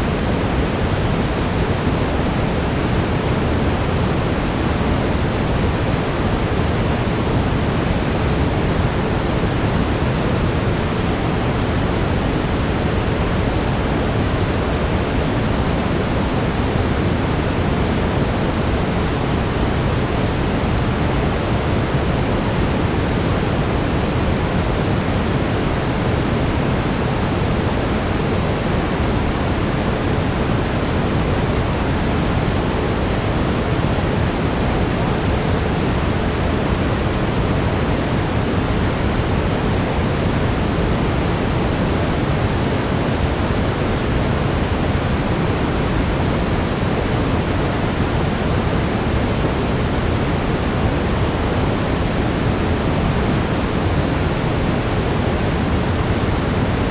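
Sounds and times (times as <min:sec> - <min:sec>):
brown noise hiss: 0:00.0 - 0:56.9.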